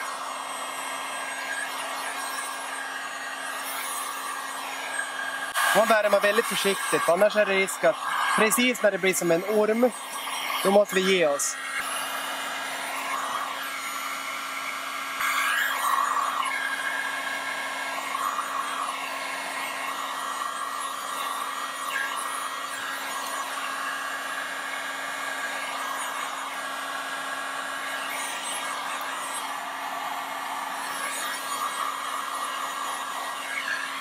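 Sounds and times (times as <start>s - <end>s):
heat gun blowing air: 0.0s - 34.0s.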